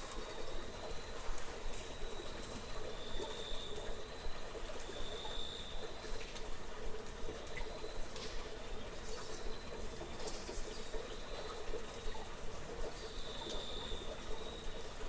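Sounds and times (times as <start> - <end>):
water trickling and dripping: 0.0 - 15.0.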